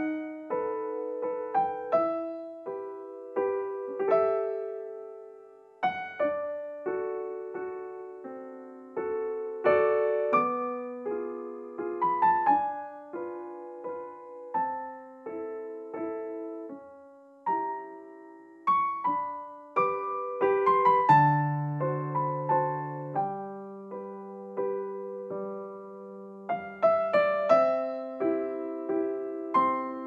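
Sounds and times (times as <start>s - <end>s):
slow piano melody: 0.0s - 30.0s.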